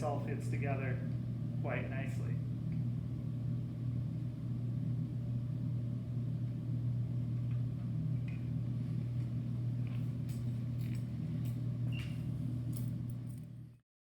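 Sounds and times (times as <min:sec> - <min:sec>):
low hum: 0:00.0 - 0:13.8.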